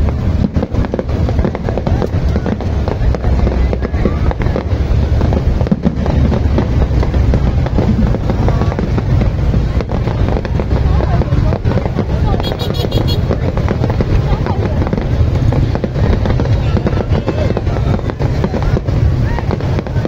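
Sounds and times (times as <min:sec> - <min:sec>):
fireworks bursts and crackles: 0:00.0 - 0:20.0
low rumble: 0:00.0 - 0:20.0.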